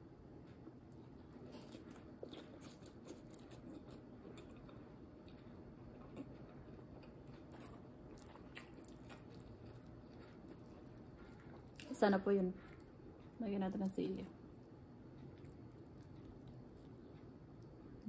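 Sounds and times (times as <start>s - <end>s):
faint chewing: 0.4s - 14.0s, 14.7s - 18.0s.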